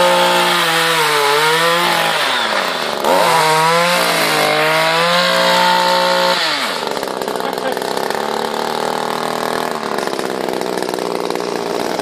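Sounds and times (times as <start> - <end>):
chainsaw revving: 0.0 - 12.0.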